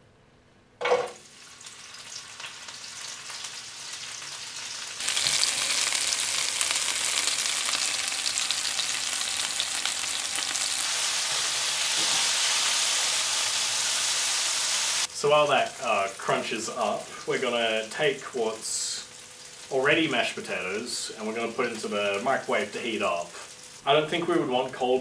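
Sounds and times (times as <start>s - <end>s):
potato sizzling in hot oil: 1.2s - 25.0s.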